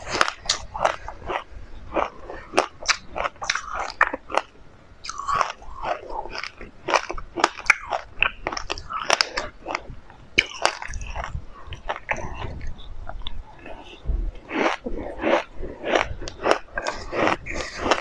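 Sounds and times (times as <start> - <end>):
seeds being chewed crunchily: 0.0 - 18.0.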